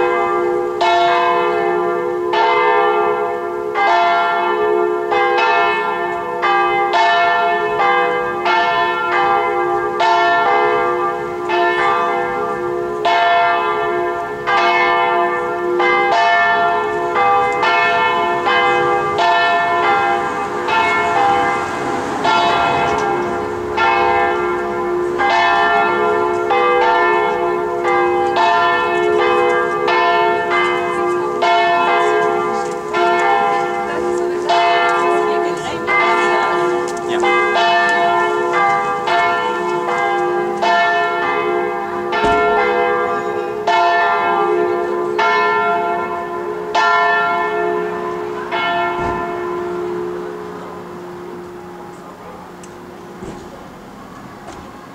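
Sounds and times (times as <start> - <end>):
church bells pealing: 0.0 - 54.9.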